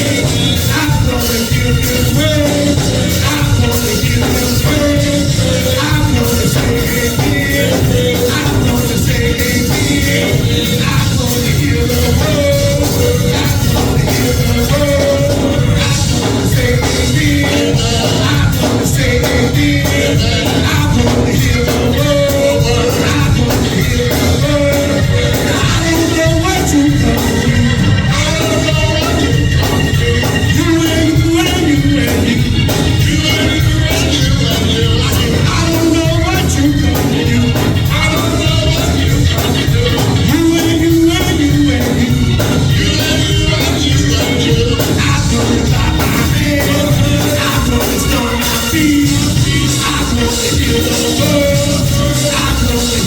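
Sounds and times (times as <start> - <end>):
gospel band music: 0.0 - 53.0
people singing: 0.0 - 53.0
steady drum beat: 0.0 - 53.0.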